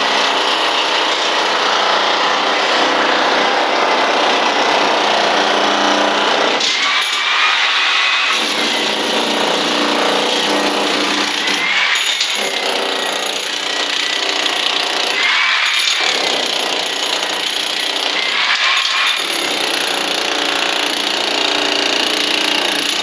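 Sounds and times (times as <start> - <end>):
power tool running under load: 0.0 - 23.0.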